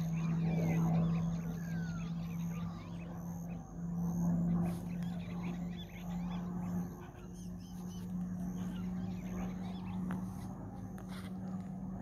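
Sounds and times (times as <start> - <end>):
small birds chirping: 0.0 - 12.0
steady low drone: 0.0 - 12.0.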